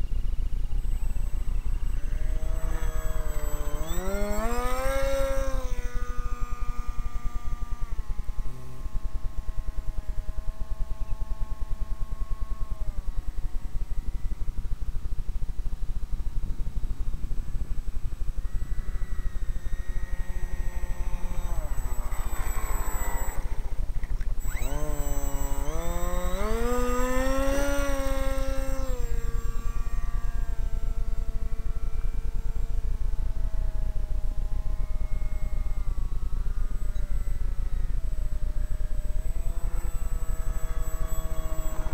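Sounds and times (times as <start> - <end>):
model plane motor buzzing: 0.0 - 41.9.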